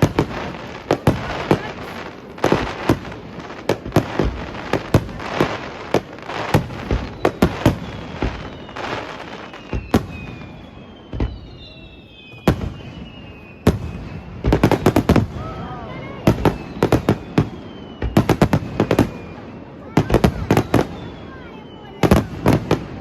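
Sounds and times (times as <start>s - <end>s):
falling fireworks whistles: 0.0s - 23.0s
fireworks bangs: 0.0s - 23.0s.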